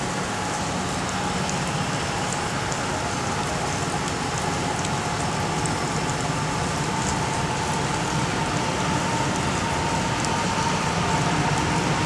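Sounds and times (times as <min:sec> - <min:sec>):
raindrops ticking nearby: 0:00.0 - 0:12.0
steady rain falling: 0:00.0 - 0:12.0.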